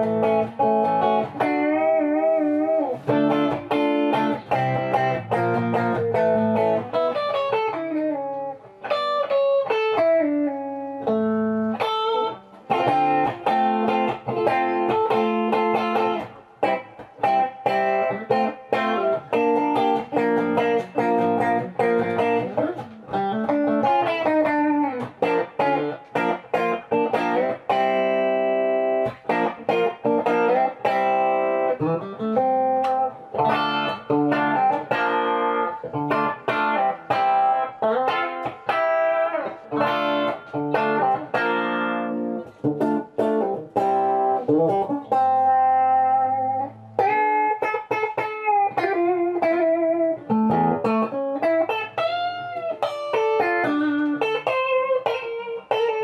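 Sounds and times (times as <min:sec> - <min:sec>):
electric guitar lead line: 0:00.0 - 0:56.0.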